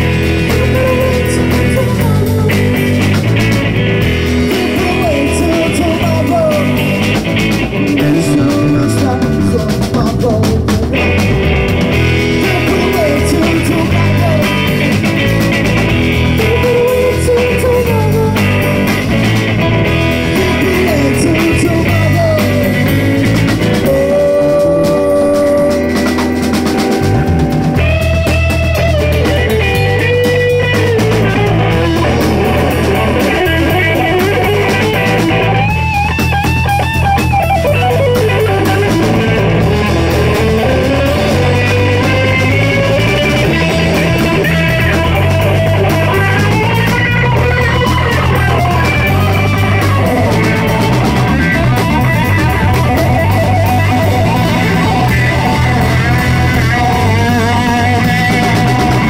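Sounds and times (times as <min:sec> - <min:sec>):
electric guitar lead lines: 0:00.0 - 0:59.0
live rock band playing: 0:00.0 - 0:59.0.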